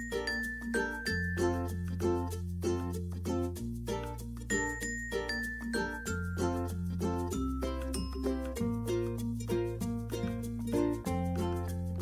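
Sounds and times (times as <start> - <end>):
light background music: 0.0 - 12.0.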